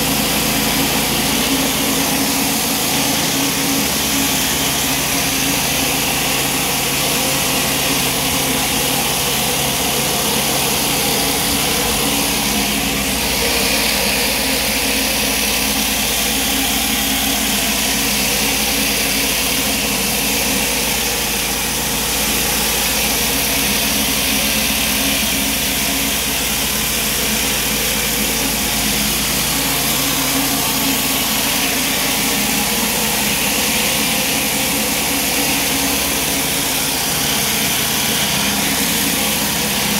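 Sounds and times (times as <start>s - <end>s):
high-pressure water hiss: 0.0s - 39.9s
pressure washer engine: 0.0s - 39.9s.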